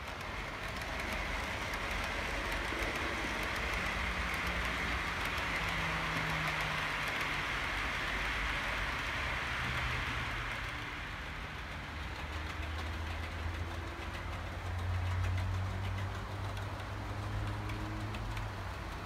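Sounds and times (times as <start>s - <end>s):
clicks over rail joints: 0.0s - 19.0s
model train engine hum: 0.0s - 19.0s
model train wheels hissing on rails: 0.0s - 19.0s.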